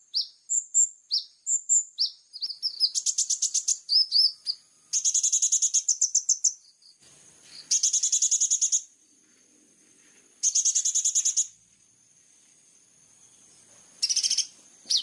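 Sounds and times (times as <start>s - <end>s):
songbird singing rapid trills: 0.0s - 9.2s, 10.4s - 11.7s, 12.7s - 15.0s.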